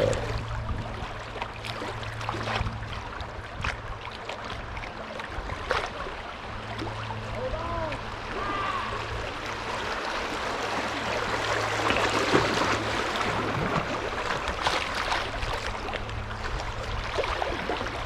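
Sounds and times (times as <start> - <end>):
river water rushing and splashing: 0.0 - 18.0.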